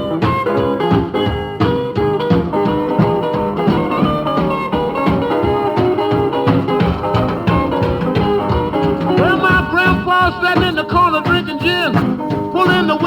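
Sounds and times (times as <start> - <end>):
boogie blues band instrumental: 0.0 - 13.0.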